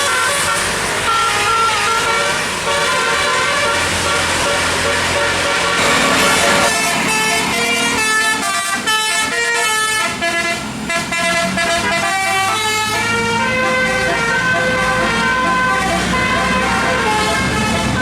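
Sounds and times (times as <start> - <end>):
bus engine rumble: 0.0 - 18.0
musical air horn playing tune: 0.0 - 18.0.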